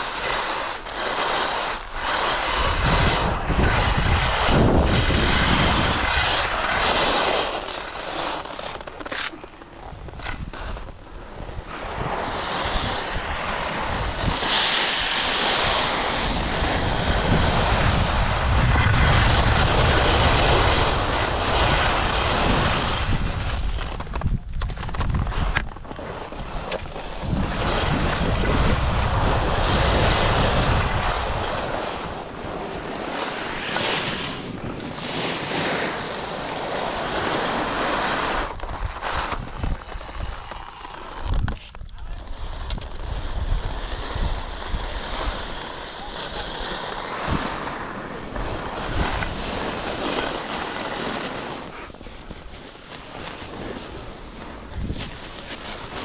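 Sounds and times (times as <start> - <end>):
skis scraping over snow: 0.0 - 56.0
wind buffeting microphone: 1.8 - 6.8, 9.9 - 50.7, 53.5 - 56.0.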